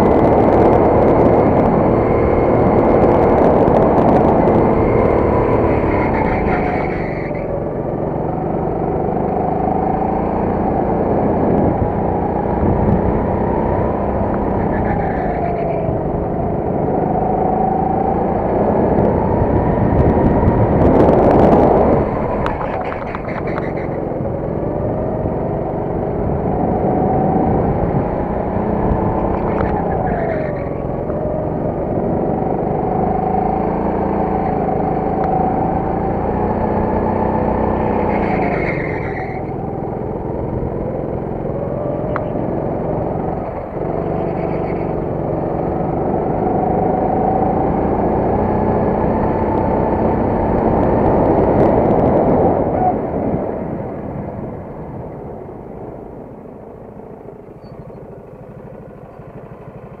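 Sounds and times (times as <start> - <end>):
go-kart engine running hard: 0.0 - 60.0.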